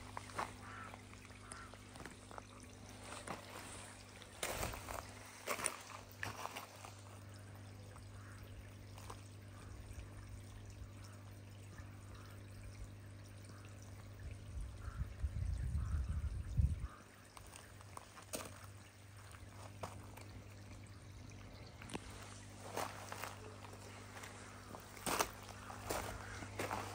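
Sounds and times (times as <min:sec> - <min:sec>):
pond water trickling and bubbling: 0:00.0 - 0:26.9
steady low hum: 0:00.0 - 0:26.9.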